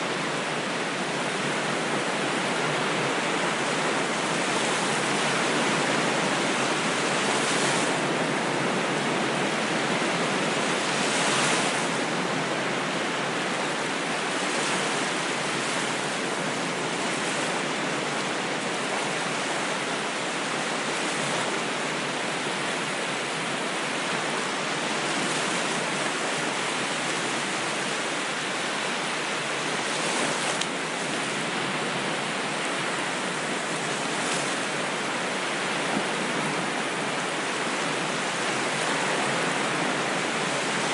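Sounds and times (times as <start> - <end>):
ocean waves surf: 0.0 - 40.9.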